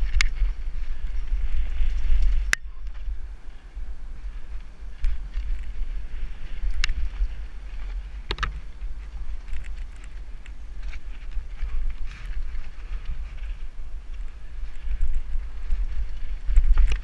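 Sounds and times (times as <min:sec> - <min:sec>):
bike rolling over dirt trail: 0:00.0 - 0:17.0
wind rumbling on microphone: 0:00.0 - 0:17.0.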